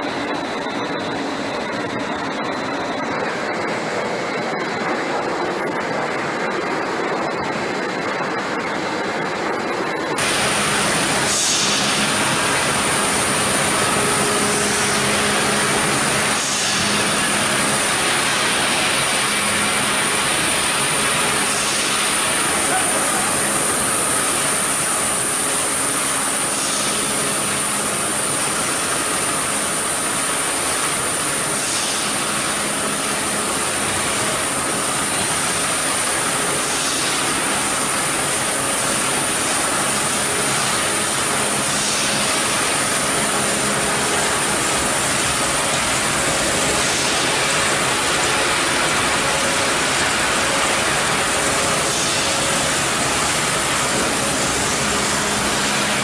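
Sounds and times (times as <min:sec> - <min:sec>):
machinery whining: 0:00.0 - 0:56.0.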